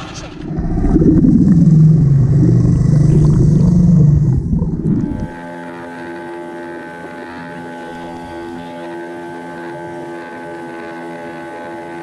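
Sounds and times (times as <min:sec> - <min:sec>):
underwater propeller drone: 0:00.0 - 0:12.0.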